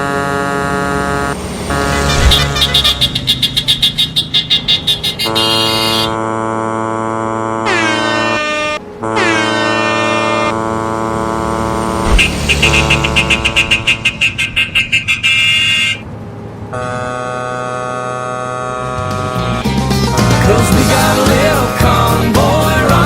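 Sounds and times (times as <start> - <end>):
truck air horns honking: 0.0 - 16.1, 16.7 - 20.8.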